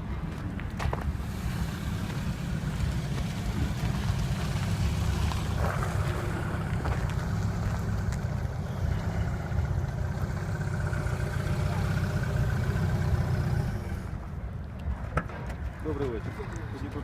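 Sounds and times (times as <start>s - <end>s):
road vehicle noise: 0.0s - 17.0s.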